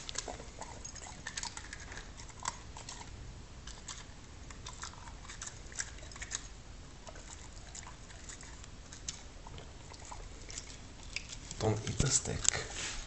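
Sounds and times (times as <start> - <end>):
dog crunching hard candy: 0.0 - 12.7.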